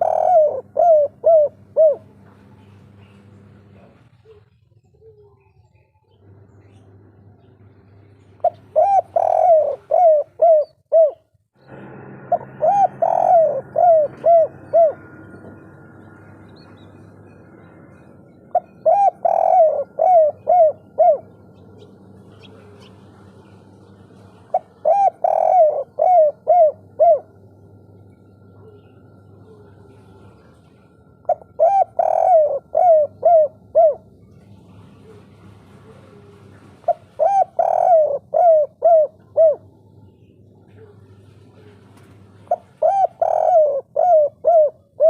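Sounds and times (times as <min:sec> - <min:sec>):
dove cooing: 0:00.0 - 0:06.4, 0:08.0 - 0:45.0.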